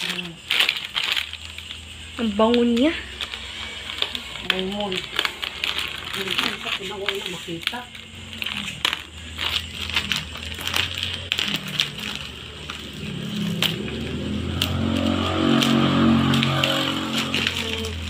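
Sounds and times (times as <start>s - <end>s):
pitched drone: 0.0s - 18.0s
plastic crinkling: 0.0s - 18.0s.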